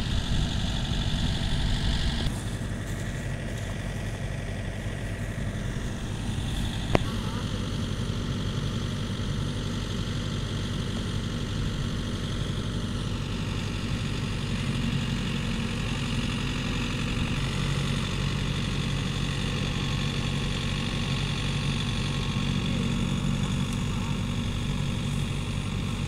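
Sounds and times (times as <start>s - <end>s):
diesel engines running: 0.0s - 26.0s.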